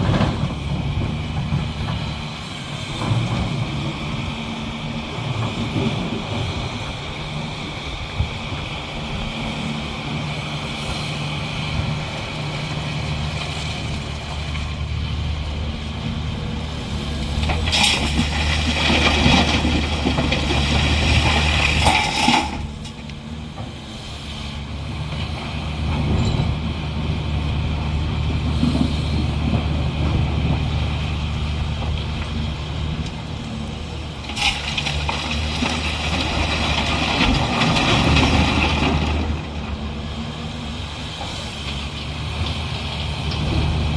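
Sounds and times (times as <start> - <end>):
diesel earthmoving machine running: 0.0 - 43.9.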